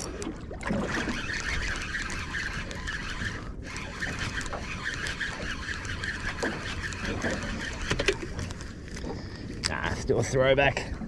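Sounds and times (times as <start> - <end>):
fishing reel whirring: 0.0 - 9.1
low wind: 0.0 - 11.0
water rumble: 0.0 - 11.0.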